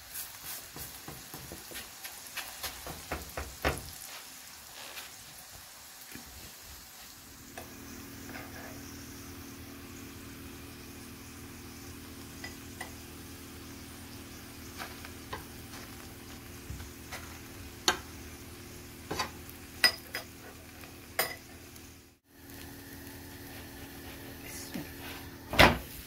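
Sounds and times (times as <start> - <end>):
bread sizzling in a pan: 0.0 - 26.0.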